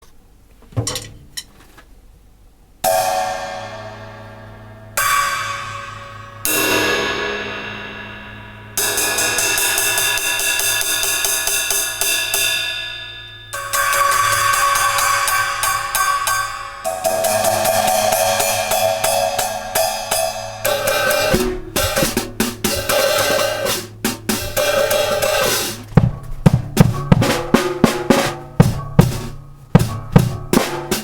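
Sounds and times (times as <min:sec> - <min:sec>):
cymbal crashes ringing: 0:02.8 - 0:31.0.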